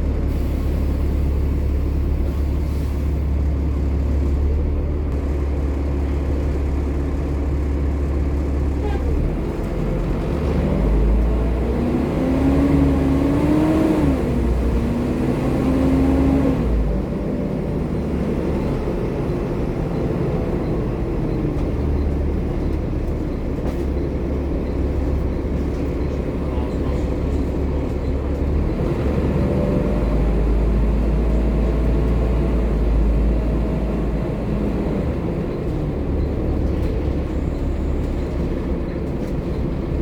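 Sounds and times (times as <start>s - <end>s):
bus engine whine: 0.0s - 40.0s
diesel bus engine droning: 0.0s - 40.0s.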